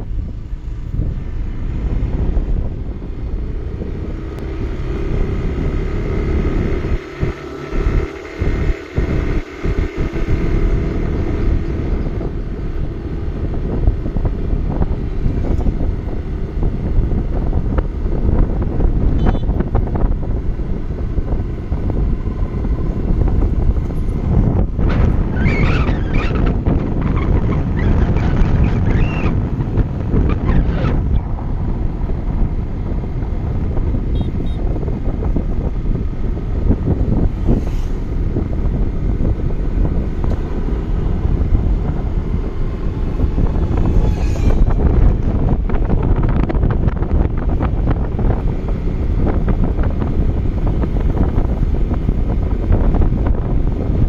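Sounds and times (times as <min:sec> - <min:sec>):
motorbike and tyres rumbling: 0:00.0 - 0:54.0
wind buffeting microphone: 0:00.0 - 0:54.0.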